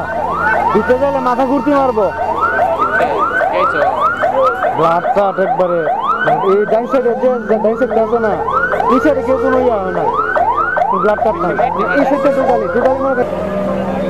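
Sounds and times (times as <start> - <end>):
emergency siren whooping: 0.0 - 14.0.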